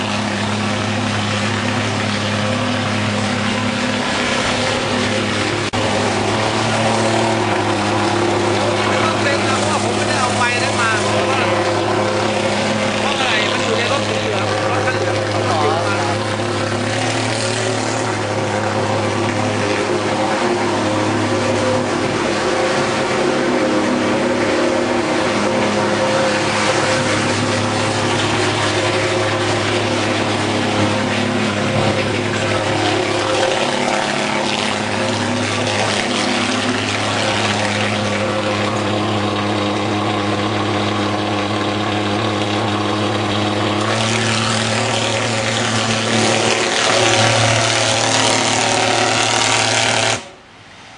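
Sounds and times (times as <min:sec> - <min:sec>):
fogging machine buzzing drone: 0:00.0 - 0:50.9.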